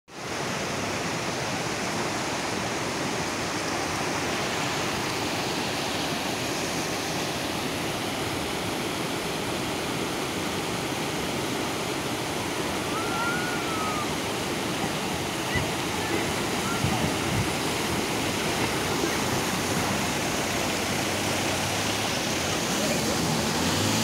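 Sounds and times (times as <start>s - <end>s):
river rushing over rocks: 0.1s - 24.0s.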